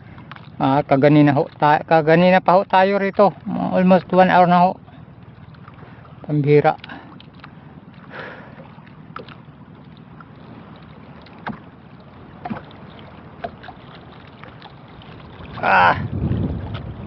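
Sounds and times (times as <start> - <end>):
water lapping around boat: 0.0 - 17.0
wind: 0.0 - 17.0.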